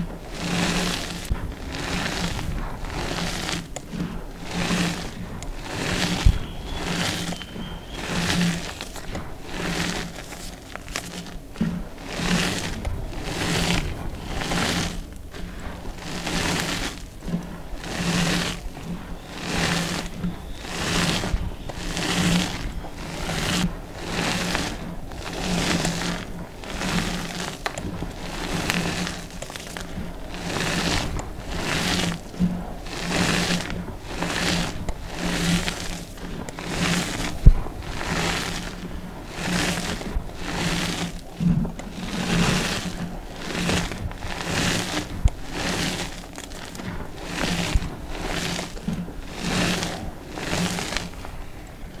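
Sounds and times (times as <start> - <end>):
hands crushing chalk: 0.0 - 52.0
sharp crackles: 0.0 - 52.0.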